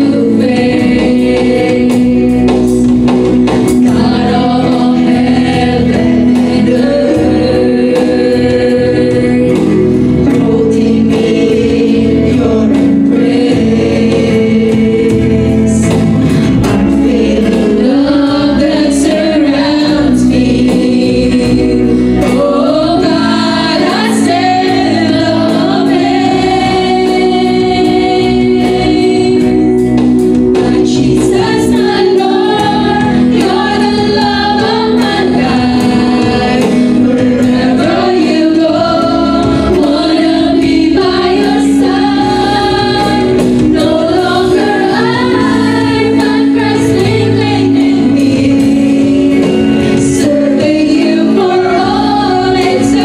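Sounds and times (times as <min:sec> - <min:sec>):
backing singers: 0:00.0 - 0:53.0
electric and acoustic guitars: 0:00.0 - 0:53.0
woman singing lead: 0:00.0 - 0:53.0.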